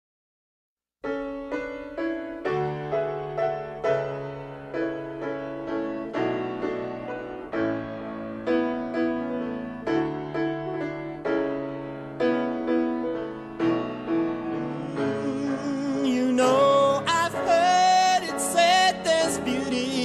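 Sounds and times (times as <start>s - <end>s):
piano notes over bass: 1.1s - 20.0s.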